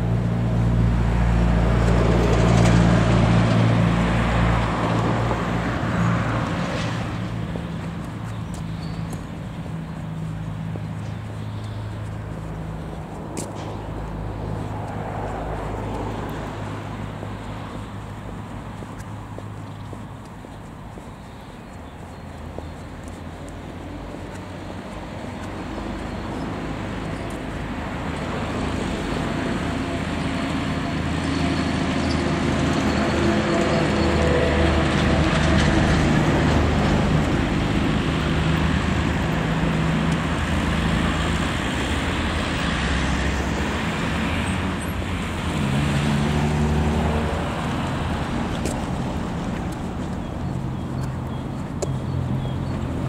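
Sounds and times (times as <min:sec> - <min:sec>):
vehicle engine hum and road noise: 0:00.0 - 0:53.0.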